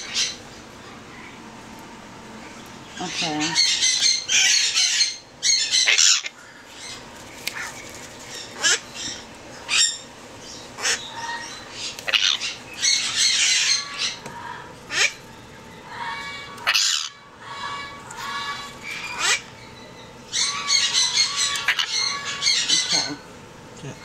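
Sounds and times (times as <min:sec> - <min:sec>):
parrot squawking: 0:00.0 - 0:00.4, 0:02.9 - 0:23.2.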